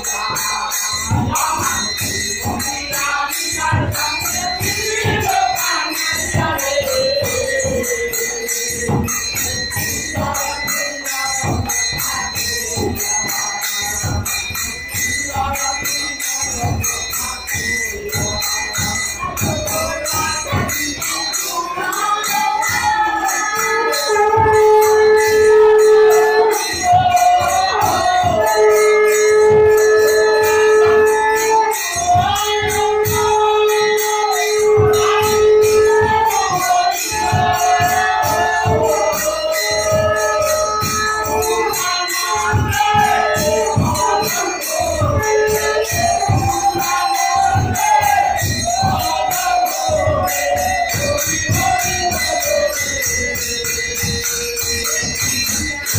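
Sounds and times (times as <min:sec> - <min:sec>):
hand drum steady rhythm: 0:00.0 - 0:55.9
small hand cymbals ringing: 0:00.0 - 0:55.9
voices singing a chant: 0:00.0 - 0:55.9.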